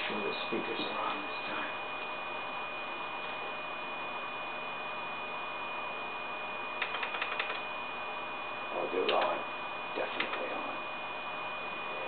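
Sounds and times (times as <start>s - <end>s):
electrical hum and hiss: 0.0s - 12.0s
high-pitched computer whine: 0.0s - 12.0s.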